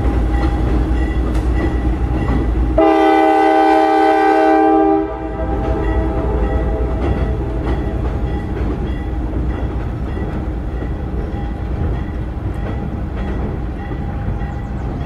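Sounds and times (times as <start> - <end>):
wheels clacking over rail joints: 0.0 - 3.5, 5.4 - 15.0
train rumbling over bridge: 0.0 - 15.0.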